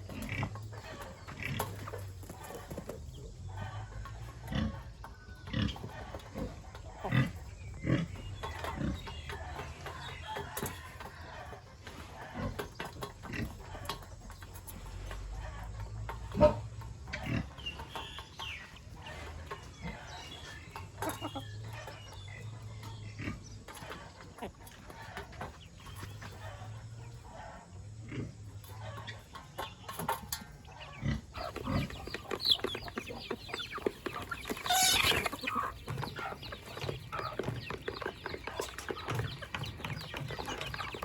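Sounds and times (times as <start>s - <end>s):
pigs grunting: 0.0s - 41.0s.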